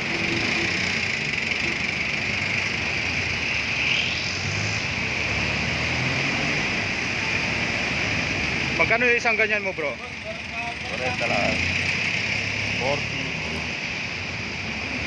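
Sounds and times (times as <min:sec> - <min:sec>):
constant hiss: 0:00.0 - 0:15.0
low traffic rumble: 0:00.0 - 0:15.0.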